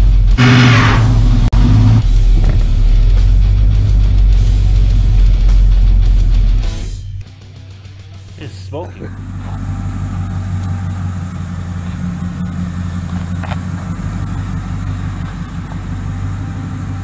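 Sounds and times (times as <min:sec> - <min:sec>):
pickup engine idling: 0:00.0 - 0:06.9, 0:07.6 - 0:17.0.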